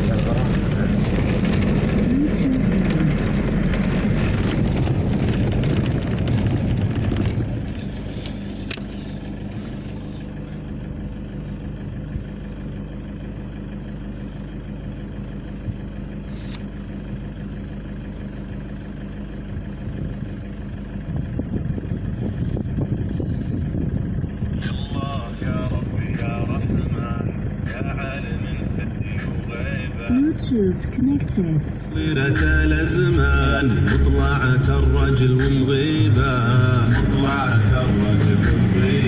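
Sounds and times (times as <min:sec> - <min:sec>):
vehicle engine and tyres on sand: 0:00.0 - 0:39.0.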